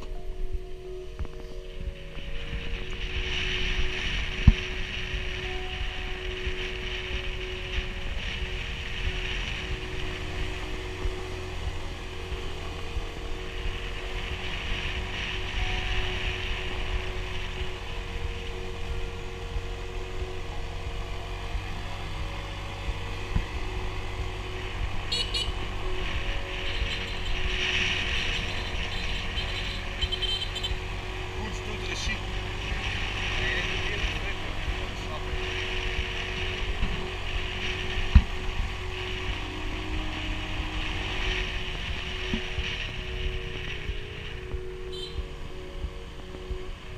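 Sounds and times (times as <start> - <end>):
scooter engine droning: 0.0 - 46.9
wind buffeting microphone: 0.0 - 46.9.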